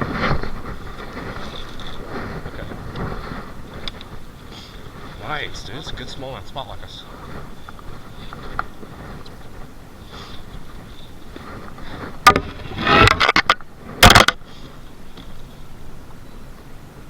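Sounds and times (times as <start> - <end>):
clattering and scraping: 0.0 - 15.5.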